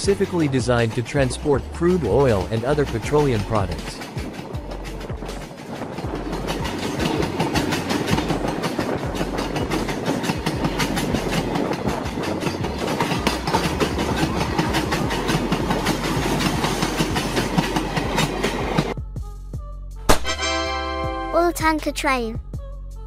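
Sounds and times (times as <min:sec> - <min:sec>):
wheels clacking over rail joints: 0:00.0 - 0:19.0
freight train rumble: 0:00.0 - 0:19.1.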